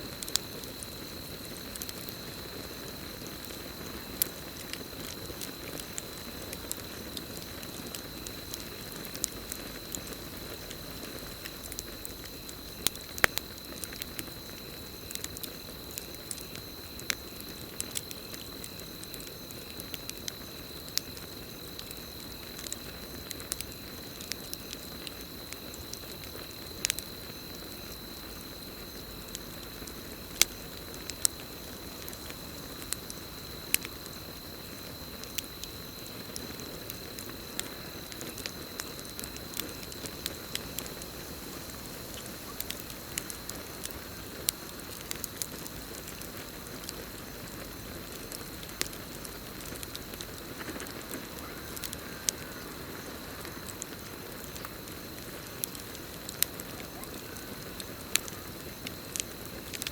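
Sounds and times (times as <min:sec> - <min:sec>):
campfire crackling and popping: 0:00.0 - 0:59.9
cricket trill: 0:00.0 - 0:59.9.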